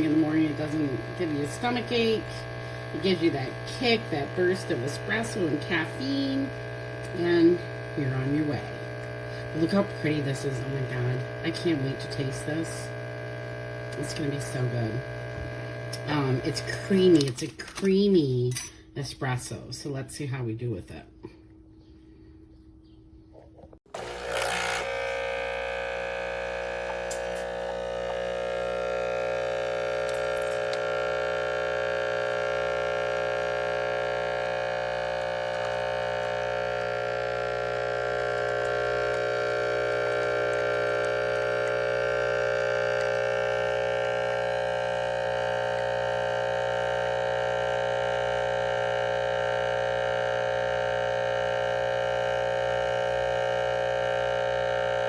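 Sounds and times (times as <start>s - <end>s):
espresso machine pump humming: 0.0s - 17.5s, 23.8s - 55.0s
pump buzz: 0.0s - 17.8s, 23.9s - 55.0s.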